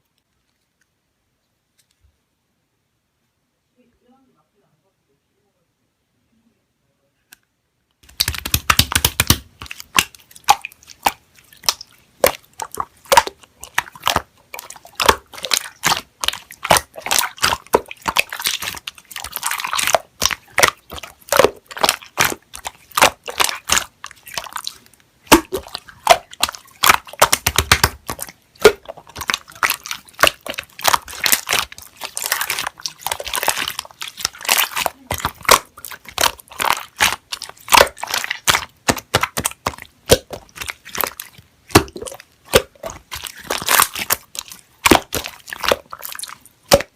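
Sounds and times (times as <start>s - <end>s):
slime squeezed by hand: 8.0s - 46.9s.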